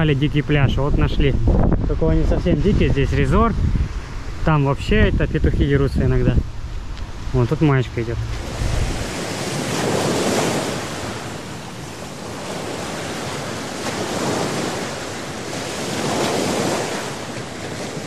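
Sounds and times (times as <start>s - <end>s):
wind on microphone: 0.0s - 18.0s
sea waves washing onto beach: 2.0s - 18.0s.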